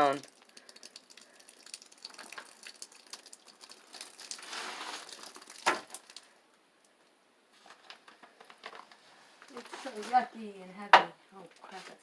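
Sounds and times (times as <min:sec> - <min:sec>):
insulation crinkling and rustling: 0:00.0 - 0:10.6.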